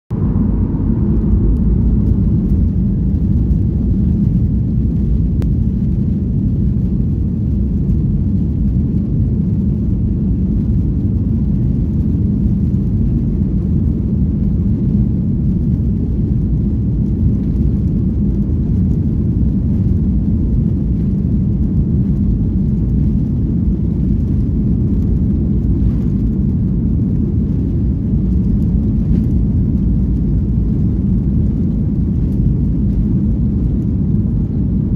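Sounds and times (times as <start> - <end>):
jet engines low rumble: 0.1 - 34.9.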